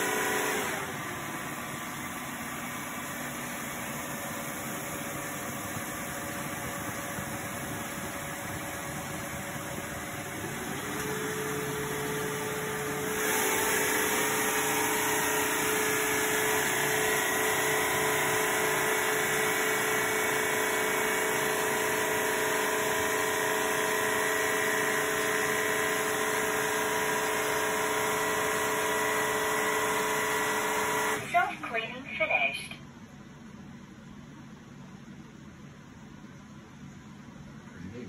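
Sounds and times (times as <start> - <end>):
vacuum mop motor whirring: 0.0 - 31.3.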